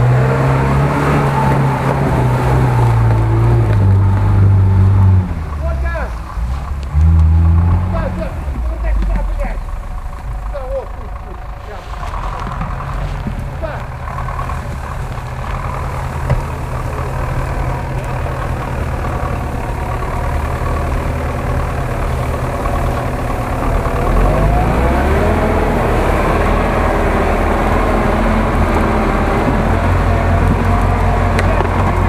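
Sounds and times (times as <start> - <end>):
engine whine rising and falling: 0.0 - 32.0
truck engine running: 0.0 - 32.0.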